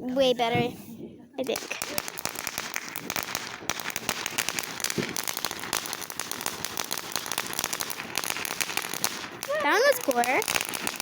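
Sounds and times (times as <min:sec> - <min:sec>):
firework crackling: 0:01.4 - 0:11.0.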